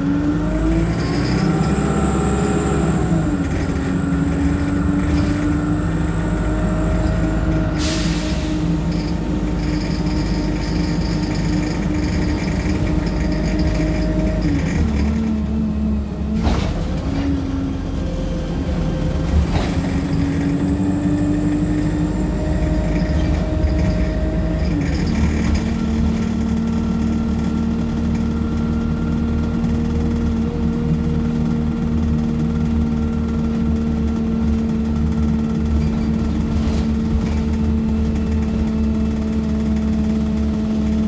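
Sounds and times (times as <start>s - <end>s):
bus engine rumble: 0.0s - 41.0s.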